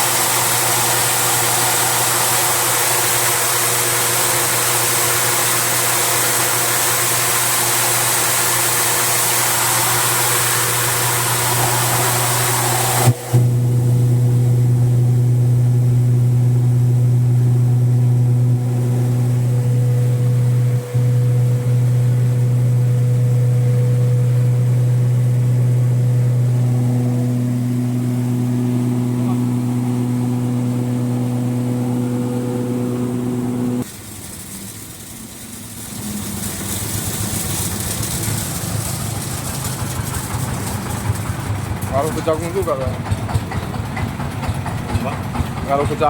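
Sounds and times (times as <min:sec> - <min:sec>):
loud rushing hiss: 0:00.0 - 0:42.7
machine engine hum: 0:00.0 - 0:46.0.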